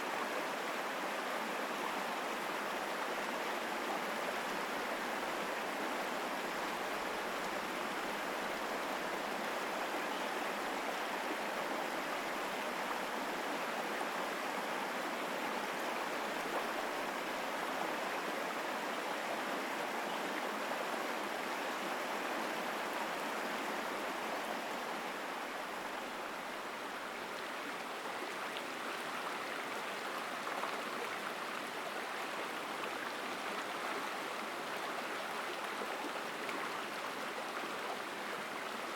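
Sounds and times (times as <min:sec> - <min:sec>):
stream rushing water: 0:00.0 - 0:38.9.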